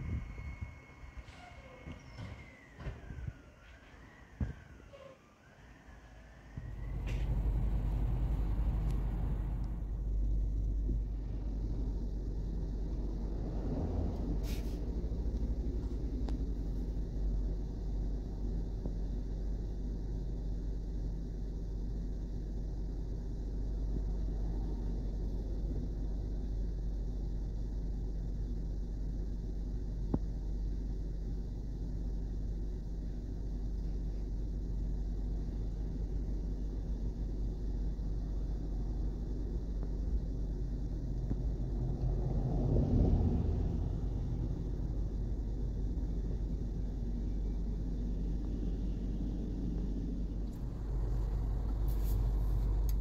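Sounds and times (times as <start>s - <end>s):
diesel truck engine idling: 6.4s - 53.0s.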